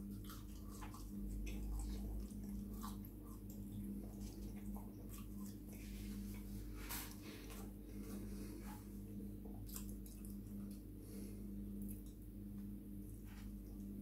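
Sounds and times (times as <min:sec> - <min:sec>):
faint chewing of chips: 0:00.0 - 0:12.3
steady low hum: 0:00.0 - 0:14.0.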